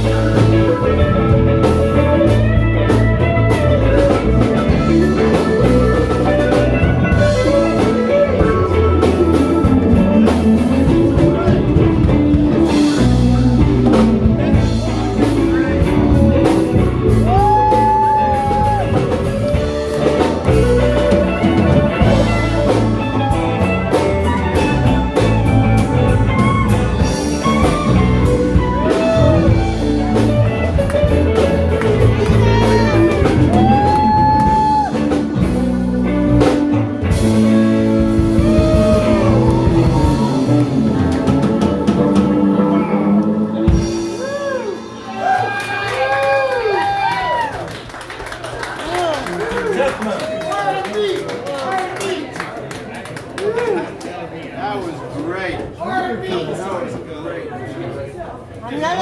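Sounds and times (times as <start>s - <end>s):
live blues band playing: 0.0s - 53.6s.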